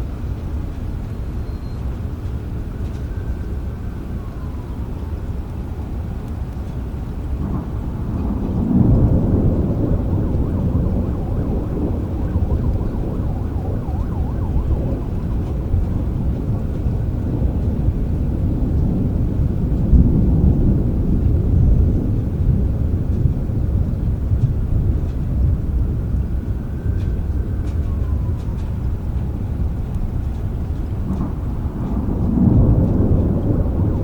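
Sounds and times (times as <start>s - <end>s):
rain: 0.0s - 34.0s
thunder rumbling: 3.5s - 34.0s.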